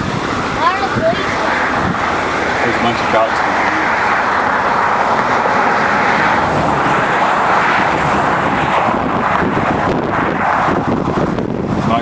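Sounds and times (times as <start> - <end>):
vehicle rumble: 0.0 - 12.0
wind rushing on microphone: 0.0 - 12.0.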